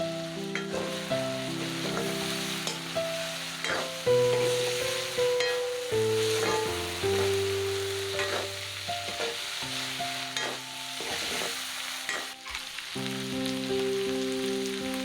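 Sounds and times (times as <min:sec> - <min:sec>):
background music of held notes: 0:00.0 - 0:15.0
food sizzling in a pan: 0:00.0 - 0:15.0.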